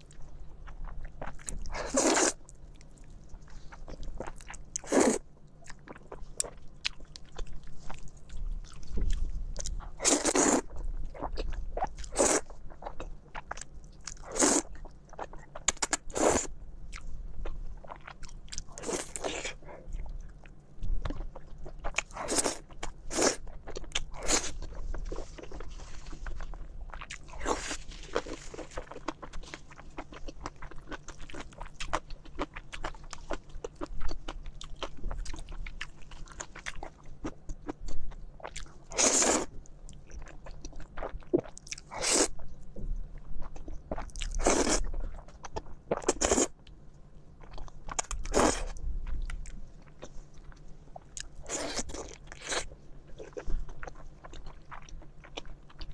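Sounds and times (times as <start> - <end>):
wet chewing and mouth clicks: 0.0 - 42.5, 43.4 - 46.8, 47.4 - 55.9.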